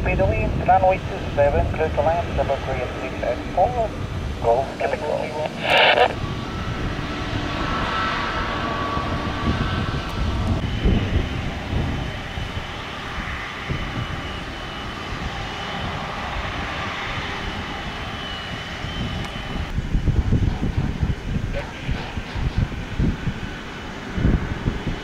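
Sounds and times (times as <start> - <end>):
airliner engines rushing: 0.0 - 25.0
high engine whine: 0.0 - 25.0.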